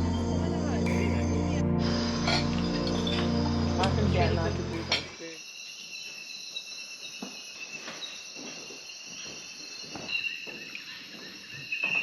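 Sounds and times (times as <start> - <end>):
crickets and insects trilling: 0.0 - 12.0.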